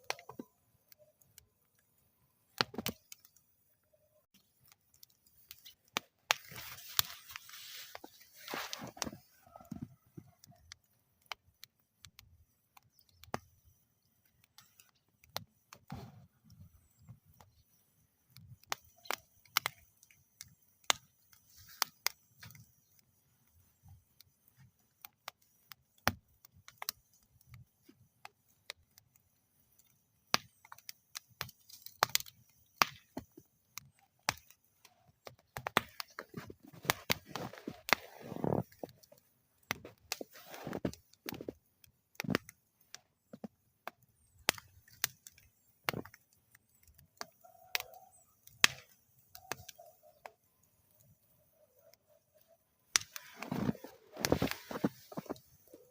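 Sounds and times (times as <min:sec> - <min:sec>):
campfire crackling and popping: 0:00.0 - 0:55.9.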